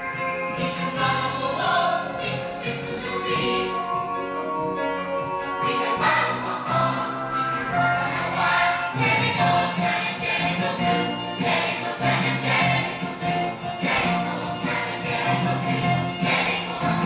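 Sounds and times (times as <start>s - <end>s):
instrumental accompaniment: 0.0s - 17.0s
choir singing: 0.5s - 17.0s.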